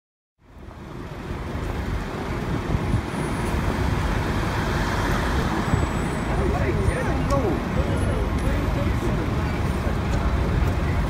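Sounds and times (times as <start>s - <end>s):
cars and bus in traffic: 0.4s - 11.0s.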